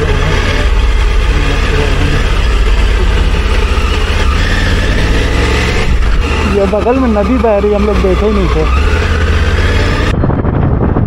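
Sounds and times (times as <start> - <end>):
motorcycle engine running: 0.0 - 11.0
wind and road rushing: 0.0 - 11.0.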